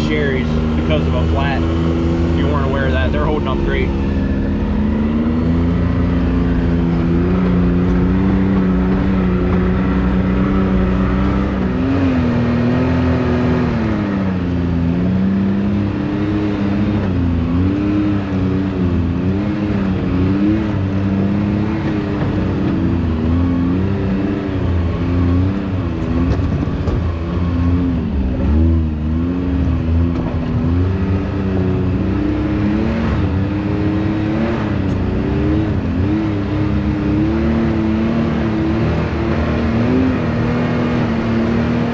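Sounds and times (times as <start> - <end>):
engine running under load: 0.0 - 41.9.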